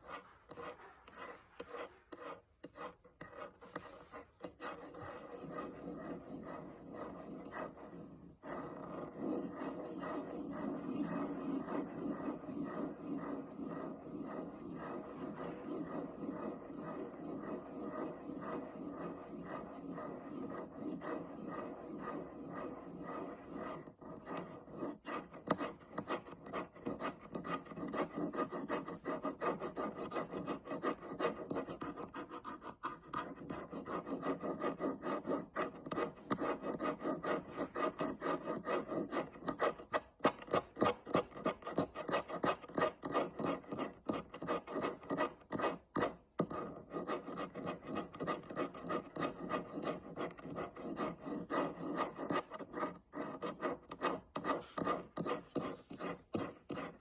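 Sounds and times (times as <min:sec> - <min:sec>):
fingernails scratching: 0:00.0 - 0:57.0.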